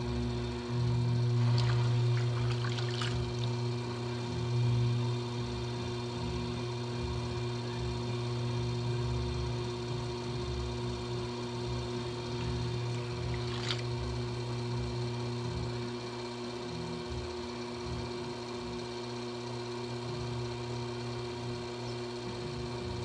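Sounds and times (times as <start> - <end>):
potter's wheel motor humming: 0.0 - 23.0.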